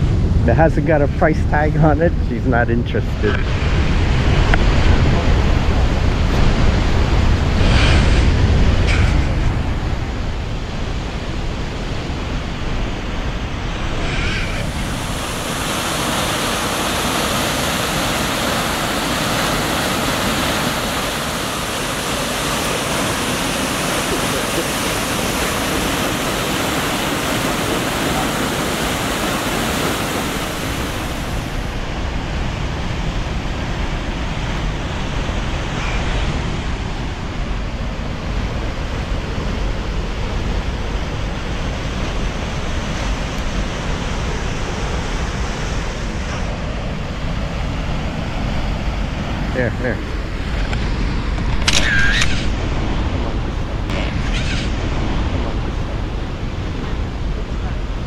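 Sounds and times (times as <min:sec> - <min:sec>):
wind rumble on microphone: 0:00.0 - 0:58.0
river water rushing: 0:03.2 - 0:53.0.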